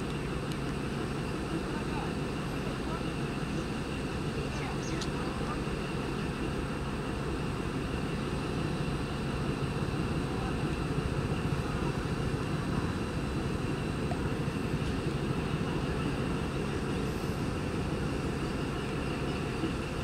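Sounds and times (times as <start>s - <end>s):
diesel train low rumble: 0.0s - 20.0s.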